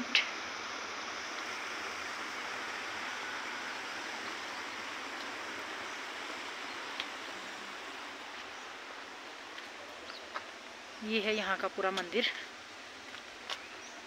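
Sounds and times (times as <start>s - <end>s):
outdoor rushing hiss: 0.0s - 14.0s.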